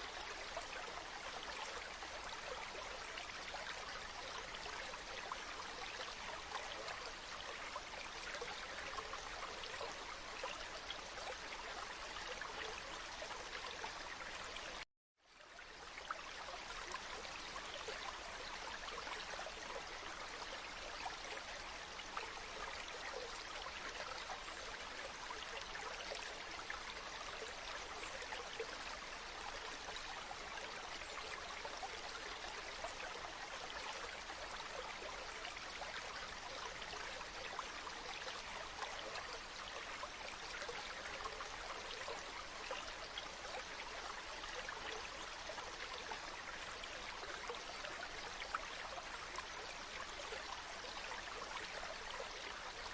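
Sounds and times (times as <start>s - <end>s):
stream babbling: 0.0s - 14.8s, 15.4s - 52.9s.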